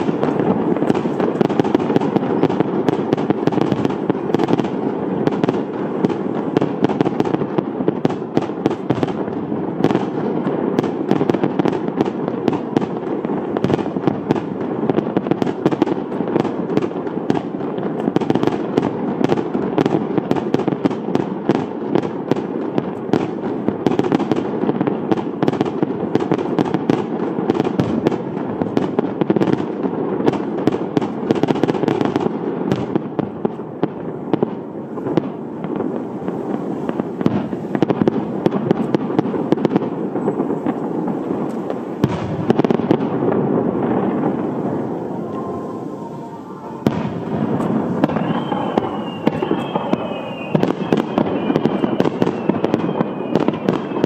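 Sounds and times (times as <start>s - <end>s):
firework cracks and bangs: 0.0s - 45.8s, 46.4s - 54.0s
fireworks rumbling: 0.0s - 54.0s.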